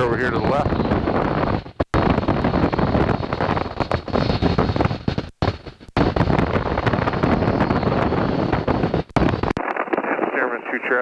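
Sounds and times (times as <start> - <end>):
radial aircraft engine running: 0.0 - 10.9
wind buffeting microphone: 0.0 - 11.0.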